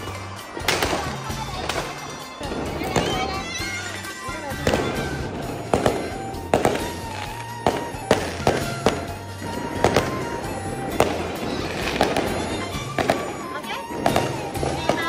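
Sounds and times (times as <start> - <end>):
background music with bass line: 0.0 - 13.2
fireworks bangs: 0.0 - 15.0.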